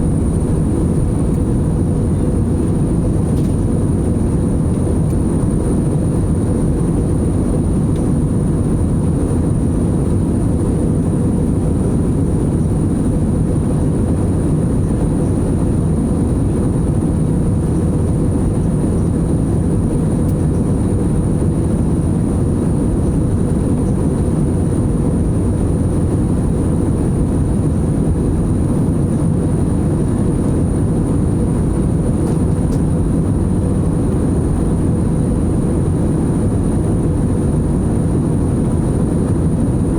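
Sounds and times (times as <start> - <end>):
airliner cabin rush: 0.0 - 39.9.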